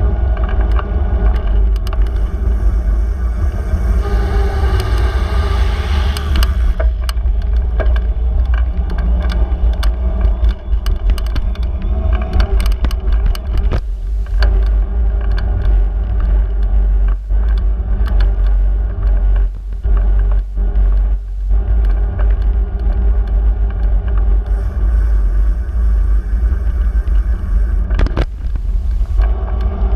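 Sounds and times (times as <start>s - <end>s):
bicycle clicks and rattles: 0.0s - 29.9s
wind and road rumble: 0.0s - 29.9s.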